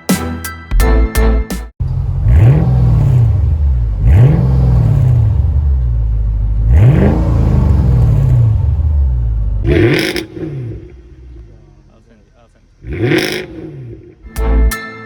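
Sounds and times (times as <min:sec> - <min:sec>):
car engine idling and revving: 0:01.8 - 0:14.4.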